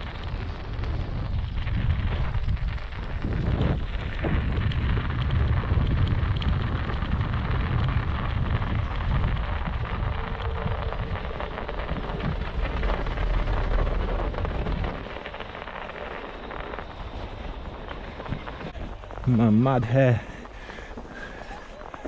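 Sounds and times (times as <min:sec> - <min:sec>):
electric scooter through snow: 0:00.0 - 0:22.0
wind rumbling on microphone: 0:00.0 - 0:22.0.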